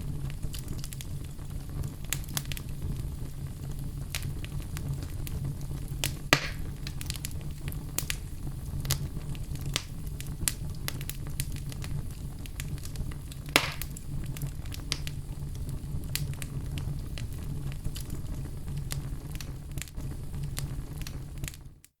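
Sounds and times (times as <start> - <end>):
fire crackling and popping: 0.0 - 22.0
fireplace fire burning: 0.0 - 22.0.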